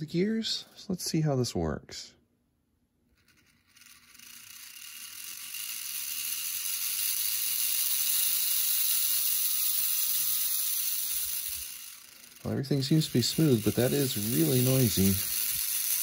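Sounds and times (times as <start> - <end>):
model train motor whirring: 3.1 - 16.0.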